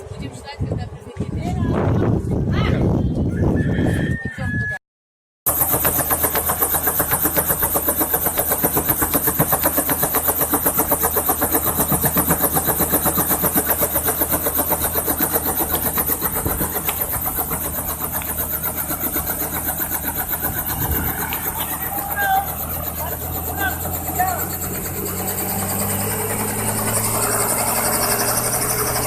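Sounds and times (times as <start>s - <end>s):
helicopter rotor beating: 0.0s - 3.0s, 5.5s - 29.0s.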